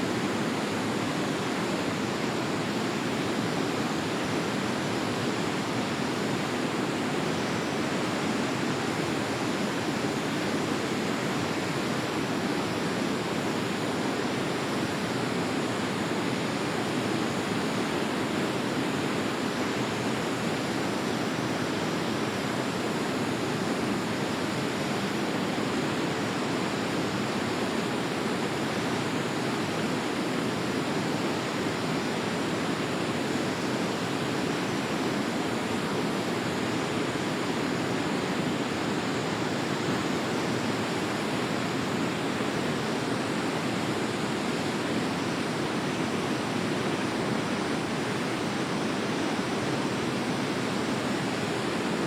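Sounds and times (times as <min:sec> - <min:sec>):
river flowing: 0:00.0 - 0:52.0.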